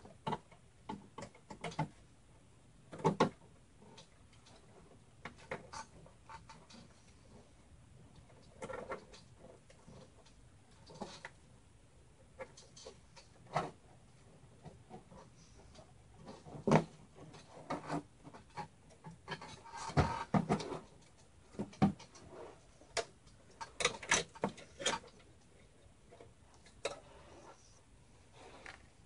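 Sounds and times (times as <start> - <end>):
computer parts clicking and rustling: 0.0 - 2.1, 2.8 - 11.5, 12.2 - 27.6.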